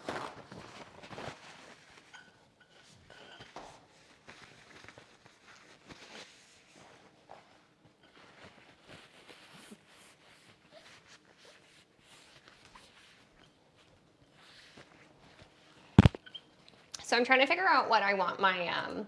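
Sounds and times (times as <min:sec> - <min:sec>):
faint clicks and rustles: 0:00.0 - 0:17.1.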